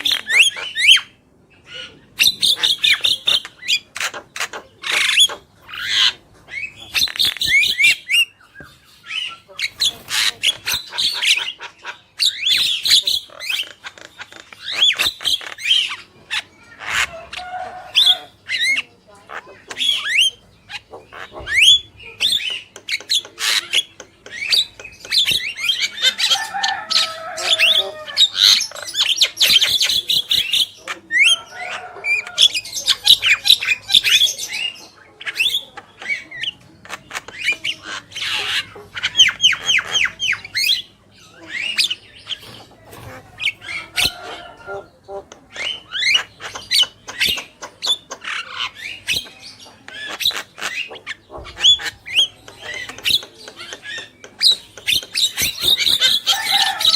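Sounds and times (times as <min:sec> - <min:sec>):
myna chattering: 0:01.7 - 0:56.9.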